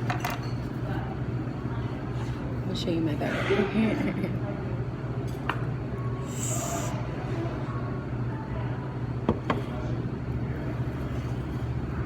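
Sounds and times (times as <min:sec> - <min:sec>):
faint background chatter: 0:00.0 - 0:12.0
steady low hum: 0:00.0 - 0:12.0.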